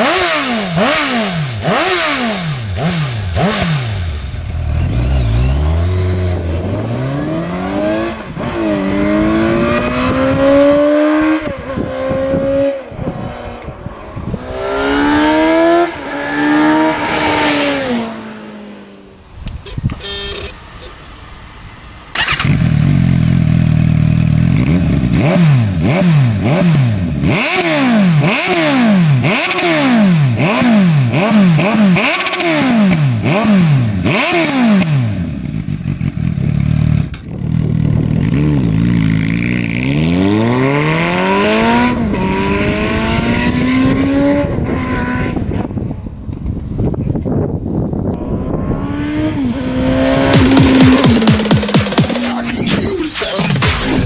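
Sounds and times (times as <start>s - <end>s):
motorcycle engine revving: 0.0s - 46.2s, 47.8s - 54.0s.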